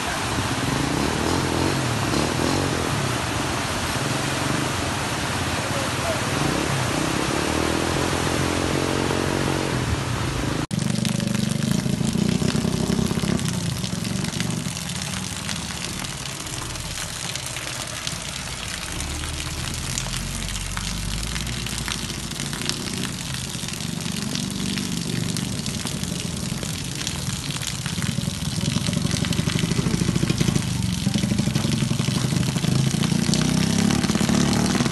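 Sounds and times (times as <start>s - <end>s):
rain and running water: 0.0s - 34.9s
motorcycle engine approaching: 0.1s - 34.9s.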